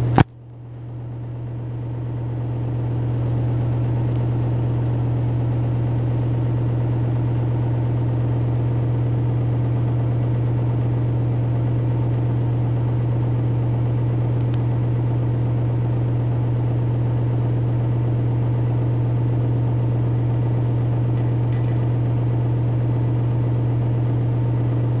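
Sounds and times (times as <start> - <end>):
exhaust fan humming and whirring: 0.0 - 25.0.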